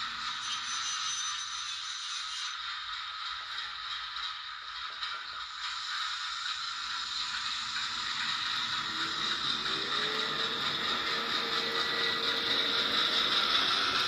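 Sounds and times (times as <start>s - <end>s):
thin hissy model engine sound: 0.0s - 14.0s.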